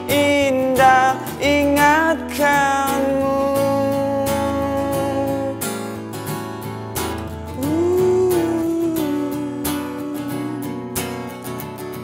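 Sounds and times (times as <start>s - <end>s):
man singing pop ballad: 0.0s - 6.0s, 7.5s - 11.3s
strummed acoustic guitar: 0.0s - 12.0s.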